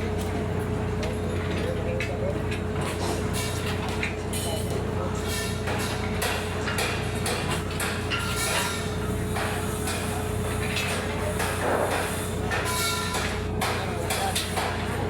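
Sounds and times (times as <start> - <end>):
construction clanks and knocks: 0.0 - 15.0.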